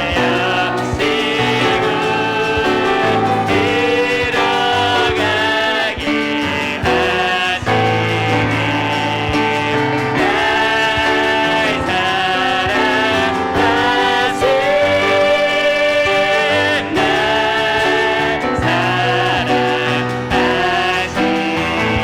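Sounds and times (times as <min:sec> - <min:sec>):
piano accompaniment: 0:00.0 - 0:22.0
vocalists singing a hymn: 0:00.0 - 0:22.0.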